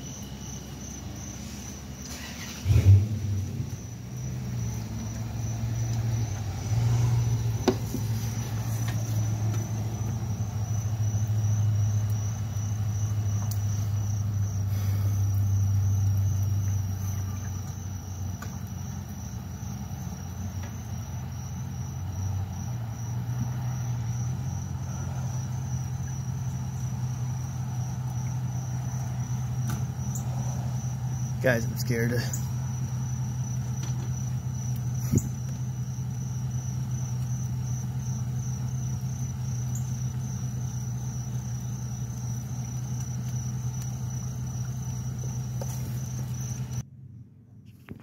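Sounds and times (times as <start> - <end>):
crickets chirping: 0.0 - 46.8
truck engines idling: 0.0 - 47.1.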